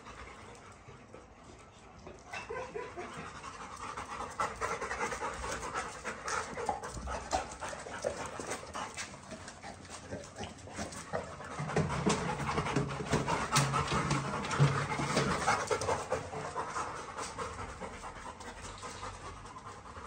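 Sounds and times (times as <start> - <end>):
dogs panting rapidly: 0.0 - 20.0.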